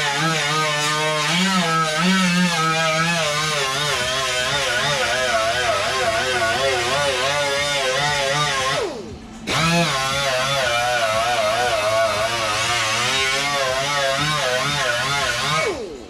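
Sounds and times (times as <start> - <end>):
grinder stripping metal: 0.0 - 16.0.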